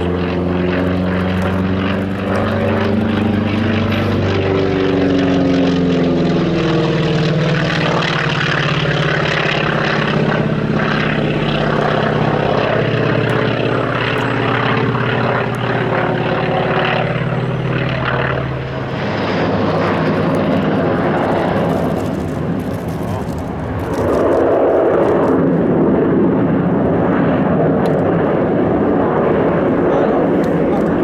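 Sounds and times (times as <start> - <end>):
propeller plane engines flying past: 0.0 - 31.0.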